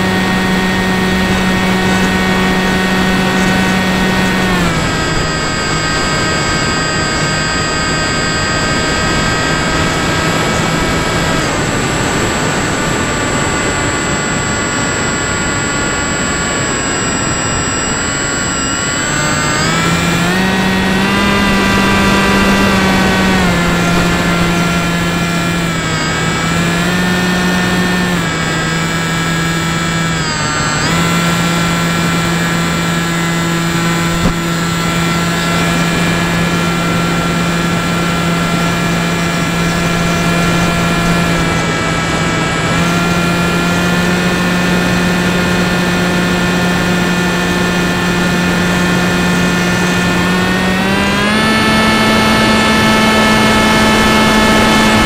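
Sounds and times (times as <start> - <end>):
model plane motor buzzing whine: 0.0 - 55.0.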